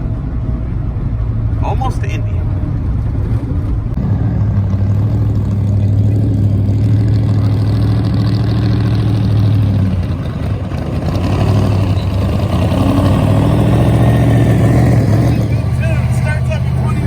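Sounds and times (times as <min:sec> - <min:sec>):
road noise: 0:00.0 - 0:17.0
truck engine drone: 0:00.0 - 0:17.0.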